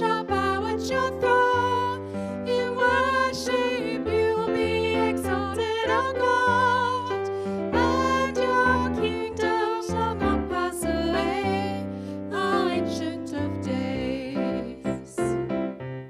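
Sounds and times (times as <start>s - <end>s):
woman singing into a microphone: 0.0s - 15.3s.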